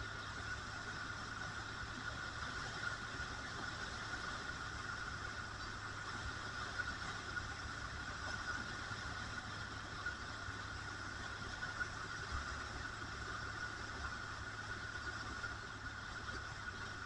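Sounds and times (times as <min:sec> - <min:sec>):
motorcycle running steadily: 0:00.0 - 0:17.0.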